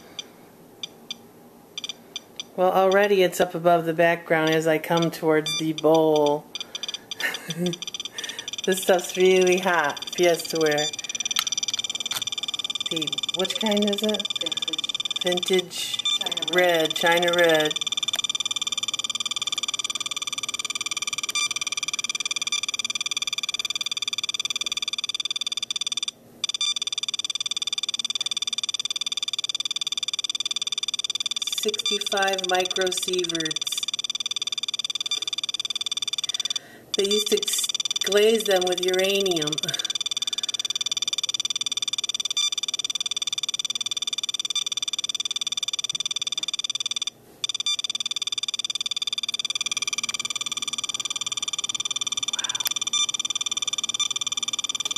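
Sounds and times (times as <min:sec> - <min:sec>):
pulsing electronic alarm tone: 0:05.0 - 0:54.9.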